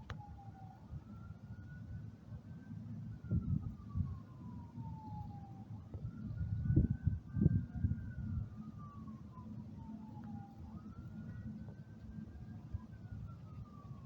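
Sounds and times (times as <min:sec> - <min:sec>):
distant siren wailing: 0:00.0 - 0:14.0.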